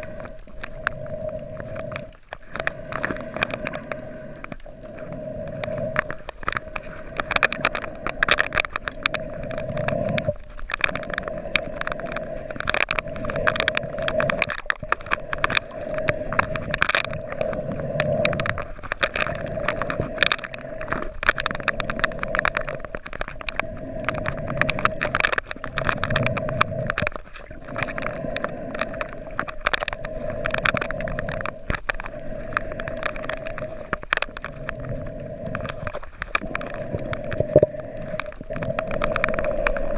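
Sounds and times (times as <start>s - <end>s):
underwater crackle of clicks: 0.0s - 39.9s.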